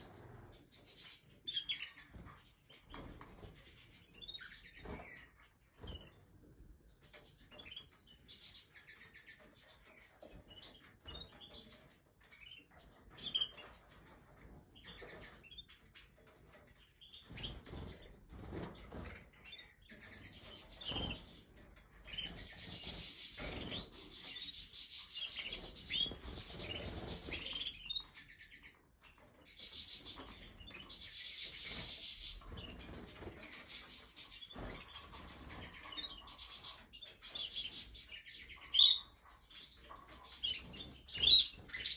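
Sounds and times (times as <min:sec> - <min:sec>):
canary singing: 0:00.0 - 0:06.3, 0:06.9 - 0:41.9.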